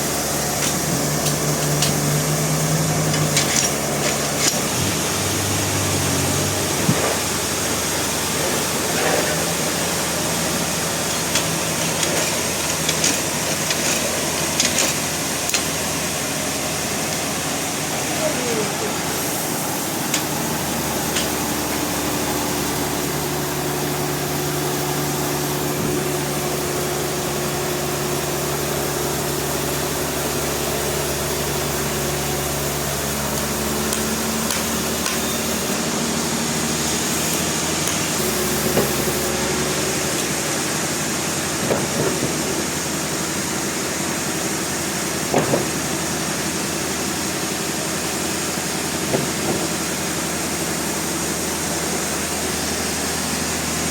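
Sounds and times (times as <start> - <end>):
hiss: 0.0 - 23.3, 28.3 - 53.9
motor hum: 0.0 - 43.2.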